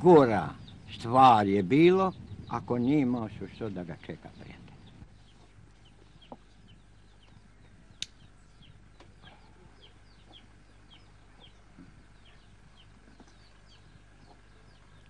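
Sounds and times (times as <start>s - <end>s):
birds peeping faintly: 0.0s - 15.0s.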